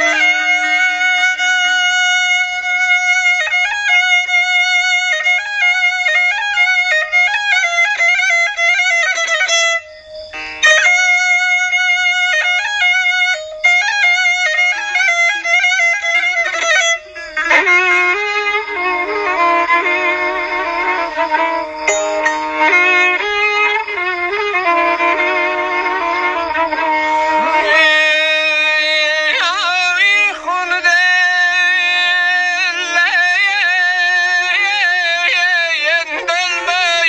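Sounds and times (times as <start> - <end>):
solo violin melody: 0.0 - 37.0.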